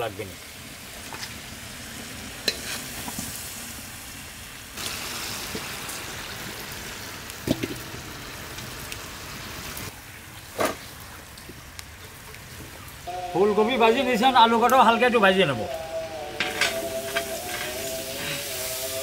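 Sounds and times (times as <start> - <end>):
vegetables deep-frying in oil: 0.0 - 13.1, 16.7 - 19.0.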